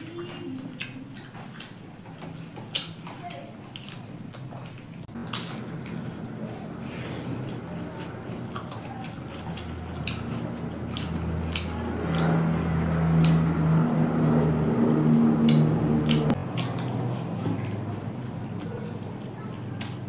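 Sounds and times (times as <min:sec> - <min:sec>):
wet chewing and lip-smacking: 0:00.0 - 0:20.0
steady low hum: 0:03.6 - 0:20.0.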